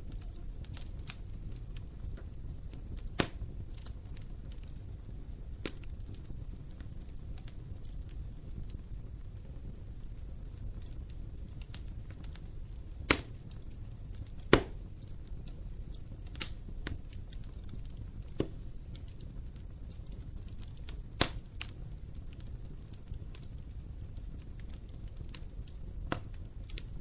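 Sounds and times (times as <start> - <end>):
burning logs popping: 0.0 - 27.0
wood fire burning: 0.0 - 27.0.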